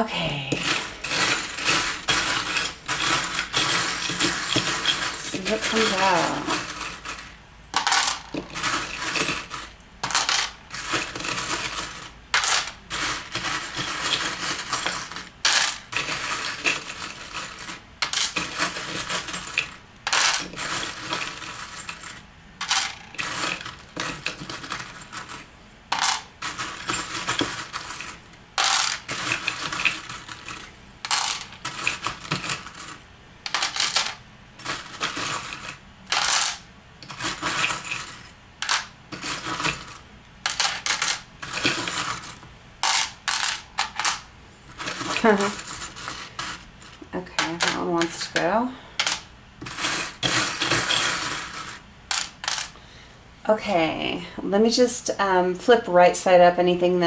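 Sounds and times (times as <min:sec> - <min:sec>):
metal charms jingling: 0:00.5 - 0:48.1, 0:49.0 - 0:52.7.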